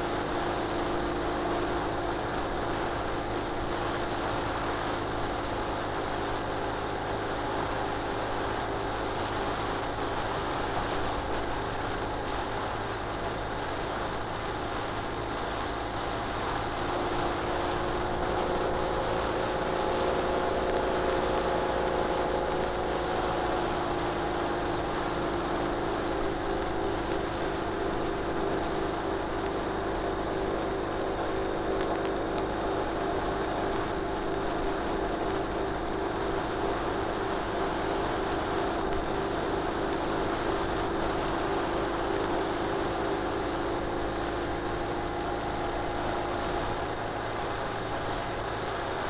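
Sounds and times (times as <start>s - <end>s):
motorcycle engine cruising: 0.0s - 49.0s
road and wind noise: 0.0s - 49.0s.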